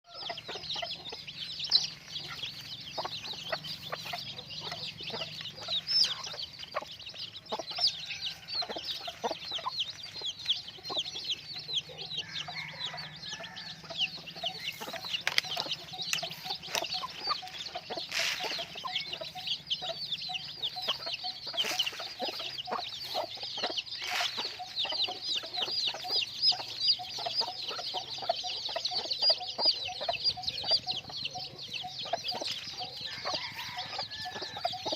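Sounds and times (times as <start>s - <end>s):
chickens peeping: 0.1s - 34.9s.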